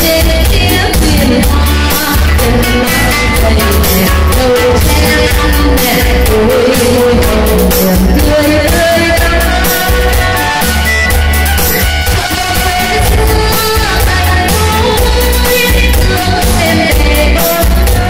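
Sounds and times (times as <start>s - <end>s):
backing track with bass beat: 0.0s - 18.0s
woman singing into a microphone: 0.0s - 18.0s.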